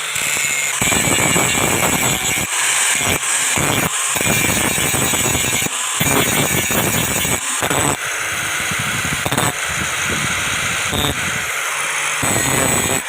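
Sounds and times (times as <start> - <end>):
power tool on metal: 0.0 - 13.0.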